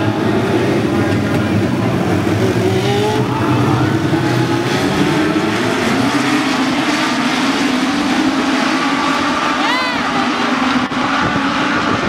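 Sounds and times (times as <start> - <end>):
race car engines revving past: 0.0 - 12.0.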